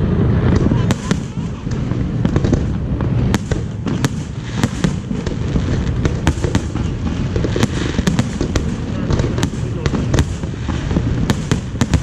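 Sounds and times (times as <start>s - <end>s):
firework cracks and pops: 0.0s - 12.0s
fireworks shell bursts rumbling: 0.5s - 12.0s.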